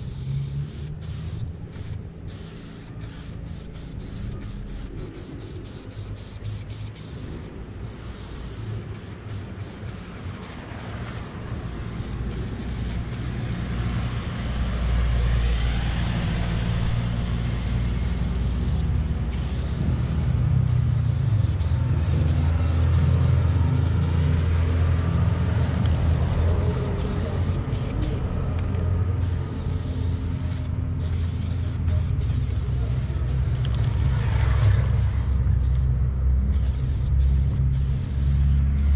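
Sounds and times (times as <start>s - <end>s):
spray paint can hissing: 0.0s - 28.3s, 29.1s - 38.9s
low vehicle engine rumble: 0.0s - 38.9s.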